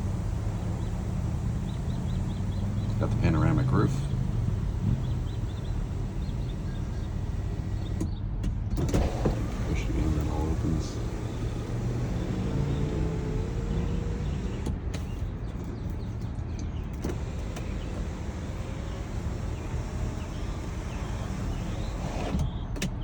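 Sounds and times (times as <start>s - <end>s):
electric motor whine: 0.0s - 8.0s, 8.9s - 15.1s, 17.0s - 22.4s
low hum from car: 0.0s - 23.0s.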